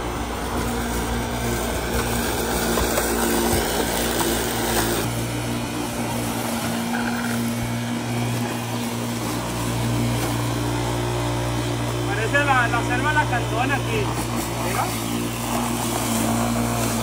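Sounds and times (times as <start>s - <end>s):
electric lawn mower running: 0.0s - 17.0s.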